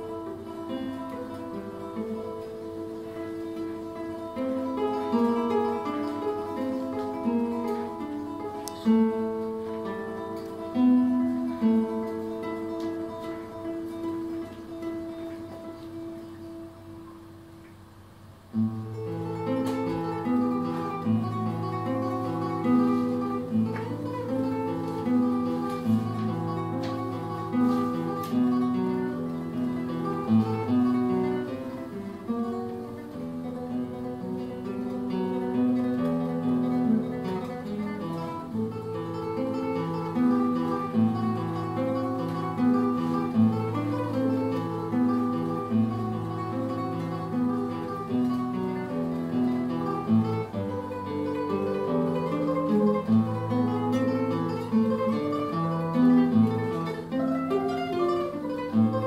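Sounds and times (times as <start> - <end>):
classical guitar fingerstyle: 0.0 - 59.0.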